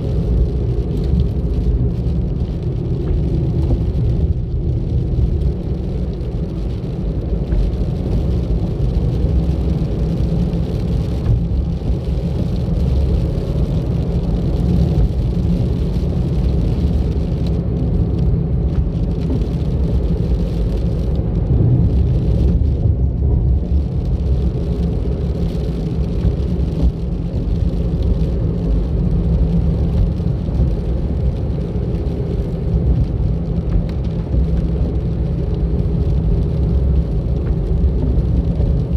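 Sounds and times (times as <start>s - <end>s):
car driving on a road: 0.0s - 38.9s.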